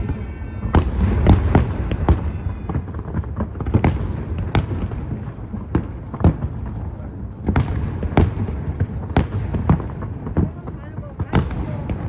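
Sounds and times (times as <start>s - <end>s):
fireworks booming and cracking: 0.0s - 12.0s.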